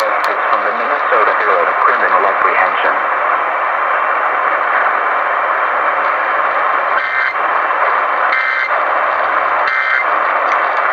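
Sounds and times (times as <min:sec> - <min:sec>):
radio static hissing: 0:00.0 - 0:10.9.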